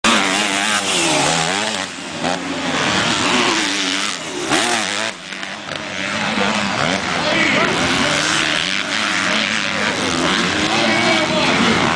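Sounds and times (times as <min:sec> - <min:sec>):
motocross bike engines revving: 0:00.0 - 0:11.9.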